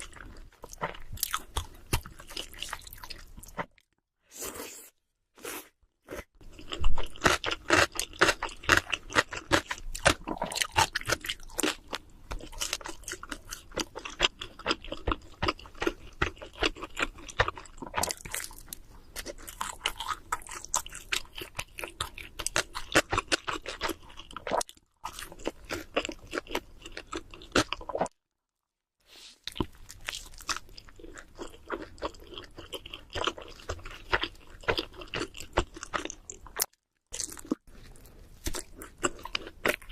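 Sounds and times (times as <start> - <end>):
crunchy chewing of pizza: 0.0 - 3.8, 5.4 - 28.1, 29.4 - 39.9.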